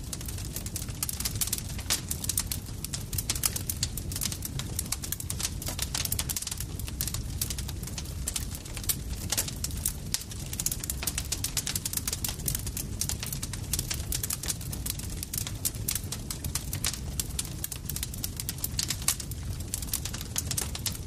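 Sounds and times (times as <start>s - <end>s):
campfire crackling and popping: 0.0s - 21.0s
low rumble of burning wood: 0.0s - 21.0s.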